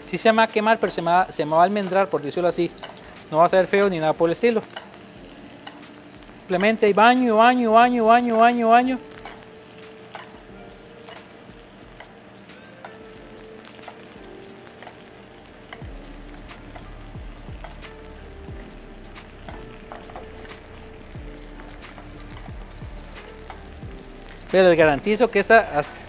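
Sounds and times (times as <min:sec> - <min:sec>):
fish sizzling in butter: 0:00.0 - 0:26.0.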